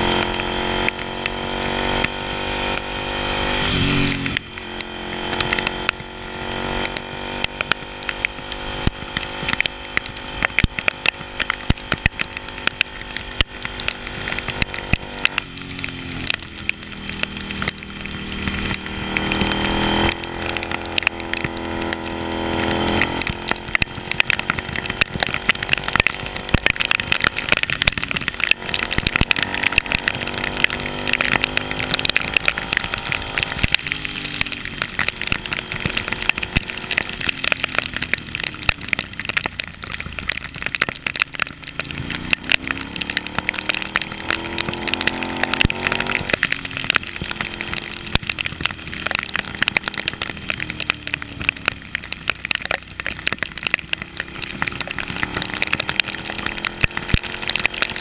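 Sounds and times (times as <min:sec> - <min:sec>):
motorcycle engine running: 0:00.0 - 0:58.0
rain spattering on camera: 0:00.0 - 0:58.0.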